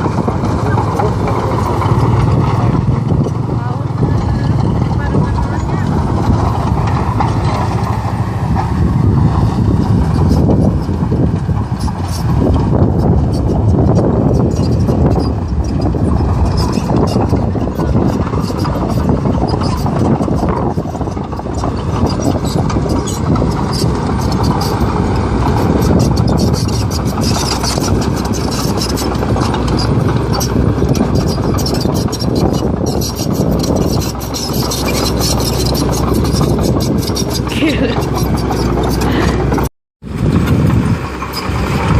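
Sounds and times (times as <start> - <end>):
excavator engine running: 0.0 - 41.9
wind buffeting microphone: 0.0 - 41.9.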